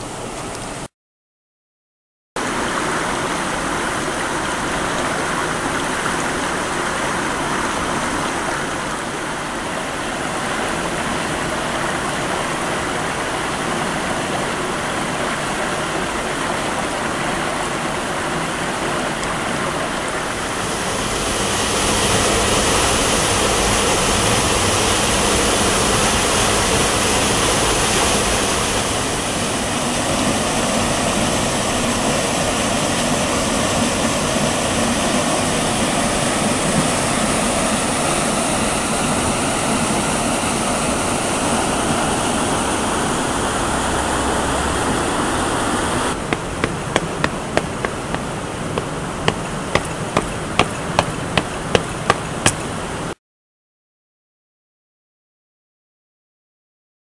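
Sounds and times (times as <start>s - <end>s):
waterfall rushing into pool: 2.4s - 53.2s.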